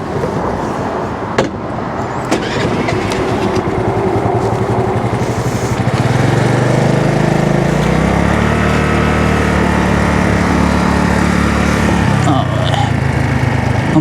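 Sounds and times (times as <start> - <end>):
small motorcycle engine running: 2.3 - 14.0.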